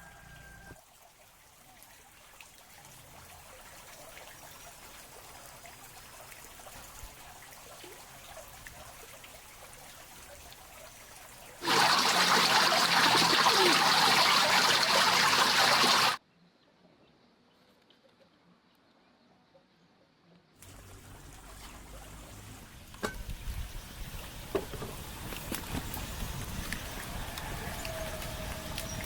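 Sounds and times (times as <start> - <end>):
stream of running water: 0.0 - 16.2, 20.6 - 29.0.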